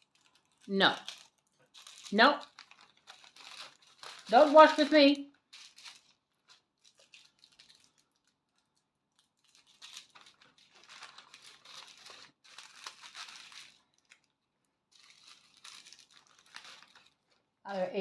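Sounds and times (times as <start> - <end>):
plastic bags crinkling: 0.0 - 17.6.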